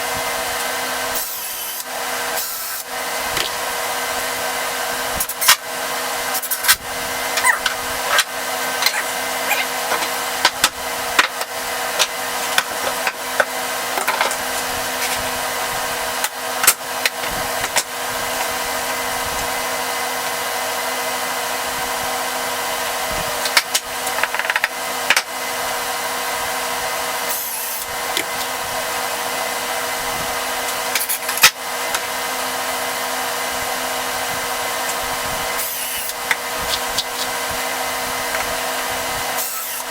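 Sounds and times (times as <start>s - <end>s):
electric motor humming: 0.0s - 39.9s.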